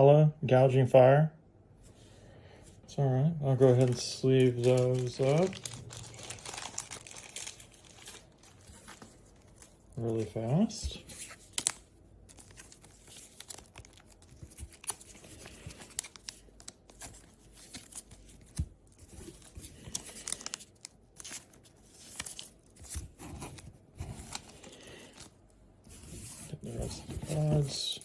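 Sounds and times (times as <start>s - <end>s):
plastic sleeves rustling: 3.4s - 28.0s.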